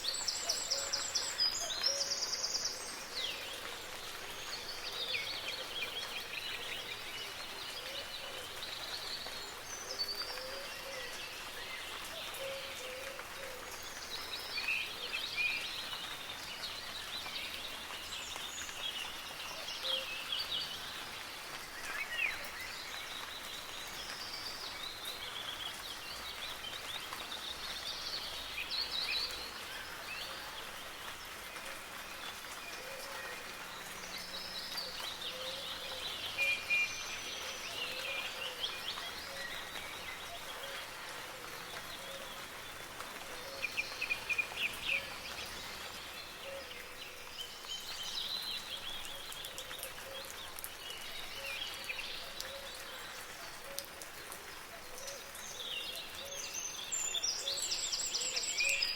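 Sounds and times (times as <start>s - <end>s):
soft rain: 0.0s - 58.9s
songbirds chirping and trilling: 0.0s - 58.9s.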